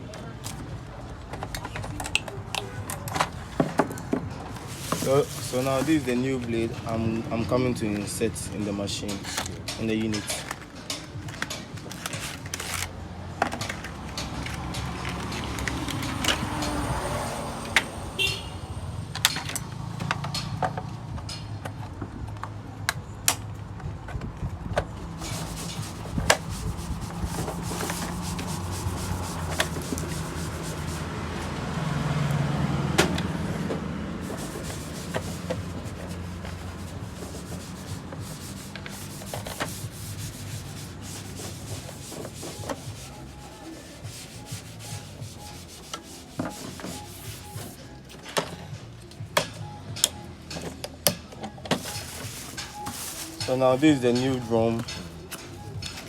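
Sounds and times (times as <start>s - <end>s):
plastic parts rubbing and scraping: 0.3s - 18.0s, 23.9s - 31.6s, 32.9s - 56.0s.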